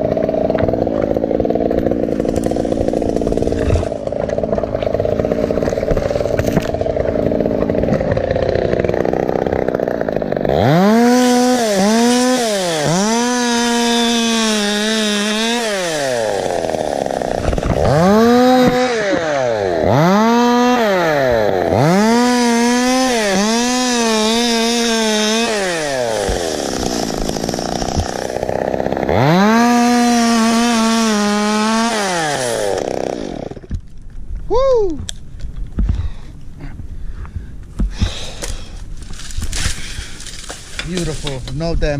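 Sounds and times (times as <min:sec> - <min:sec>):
chainsaw revving: 0:00.0 - 0:33.7.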